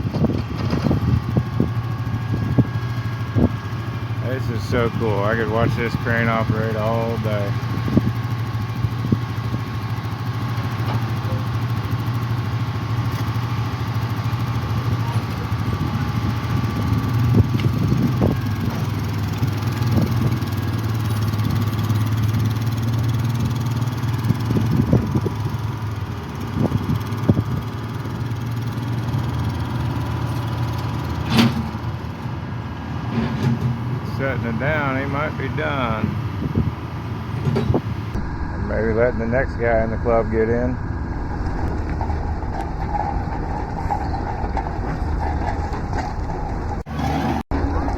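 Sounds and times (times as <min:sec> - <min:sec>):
dragline engine running: 0:00.0 - 0:47.9.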